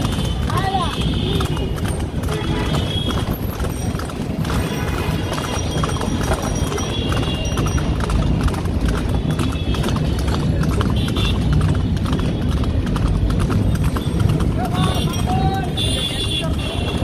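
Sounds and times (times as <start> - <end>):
hooves clip-clopping on asphalt: 0.0 - 17.0
street noise: 0.0 - 17.0.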